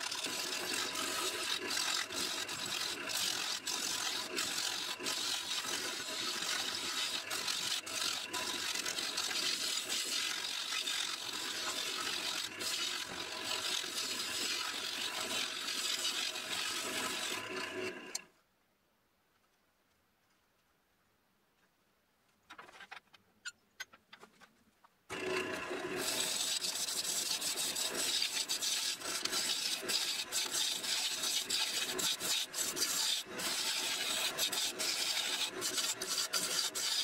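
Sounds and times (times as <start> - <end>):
gouge cutting wood on lathe: 0.0 - 18.2, 25.1 - 37.0
lathe hum: 0.0 - 18.2, 25.1 - 37.0.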